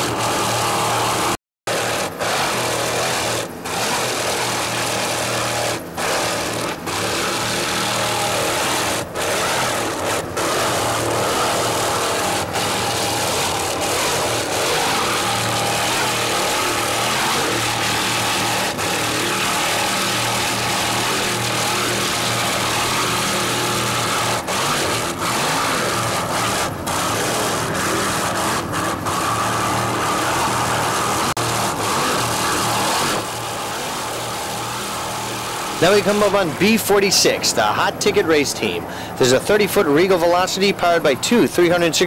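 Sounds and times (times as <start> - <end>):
powerboat engines running hard: 0.0 - 42.0.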